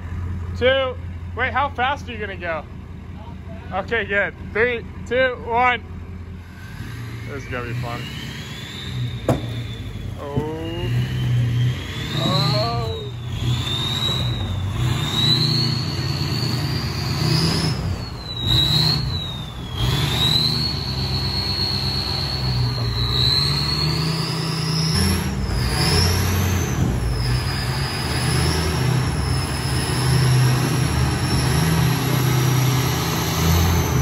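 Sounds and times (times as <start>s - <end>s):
truck engine under load: 0.0s - 34.0s.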